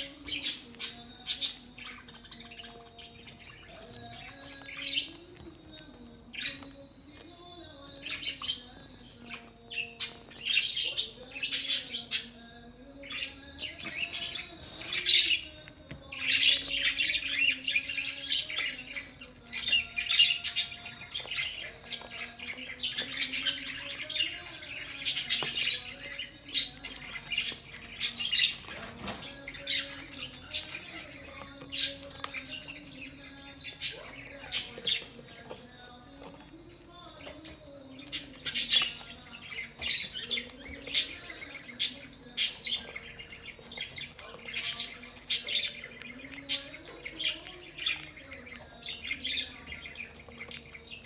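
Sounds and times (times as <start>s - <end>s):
budgerigars chirping: 0.0s - 6.8s, 7.4s - 12.3s, 16.2s - 35.6s, 36.4s - 51.0s.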